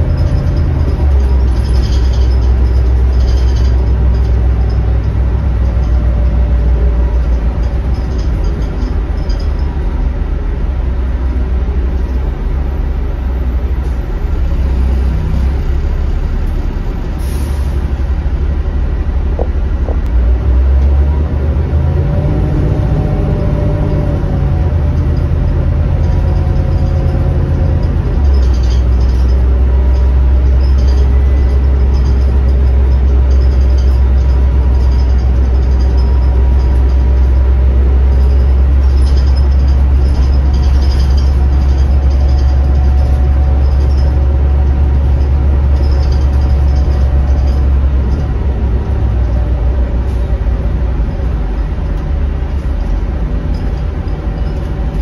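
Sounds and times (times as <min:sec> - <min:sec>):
diesel bus engine droning: 0:00.0 - 0:55.0
road noise: 0:00.0 - 0:55.0.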